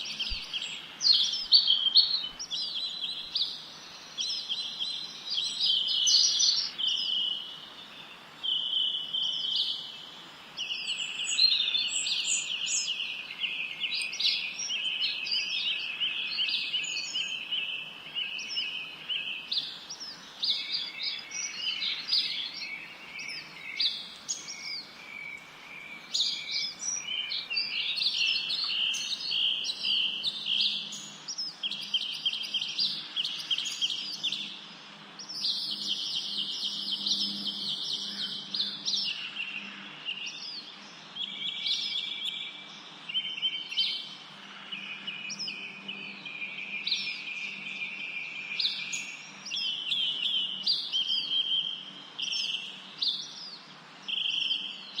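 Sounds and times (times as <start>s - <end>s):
faint steady hiss: 0.0s - 55.0s
wild birds singing: 0.0s - 55.0s.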